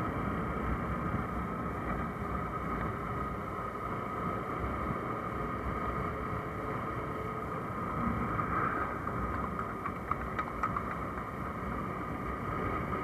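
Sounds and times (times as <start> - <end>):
road noise: 0.0 - 13.0
wind noise: 0.0 - 13.0.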